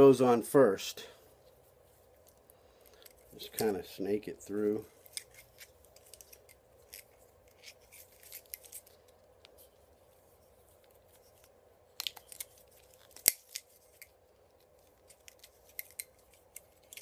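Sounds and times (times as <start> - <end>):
clicks and rustles of wires: 1.4 - 4.0, 4.7 - 17.0.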